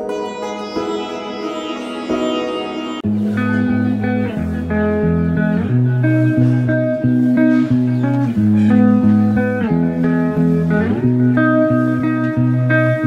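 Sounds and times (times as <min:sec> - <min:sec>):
bass line: 0:00.0 - 0:13.0
plucked-string melody: 0:00.0 - 0:13.0.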